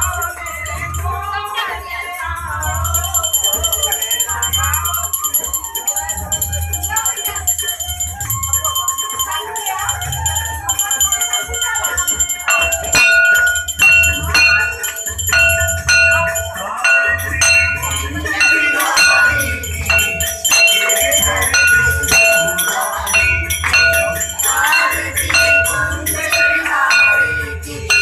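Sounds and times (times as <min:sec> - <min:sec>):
hand bell ringing: 0:00.0 - 0:01.9, 0:02.5 - 0:28.0.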